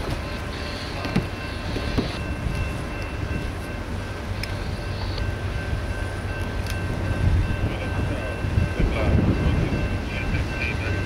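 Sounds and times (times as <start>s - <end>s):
distant locomotive rumble: 0.0s - 11.0s.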